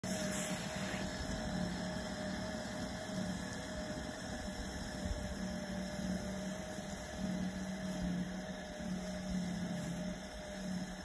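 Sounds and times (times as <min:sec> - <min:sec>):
snow blower motor humming: 0:00.0 - 0:11.0.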